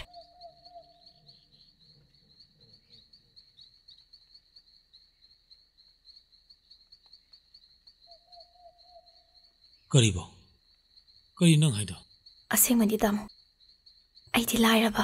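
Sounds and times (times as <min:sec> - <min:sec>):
high-pitched insect trilling: 0:00.0 - 0:15.0.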